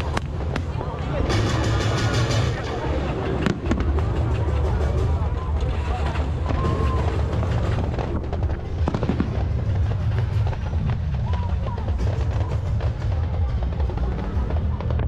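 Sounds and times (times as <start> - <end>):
fireworks booming: 0.0 - 15.0
fireworks crackling: 0.0 - 15.0.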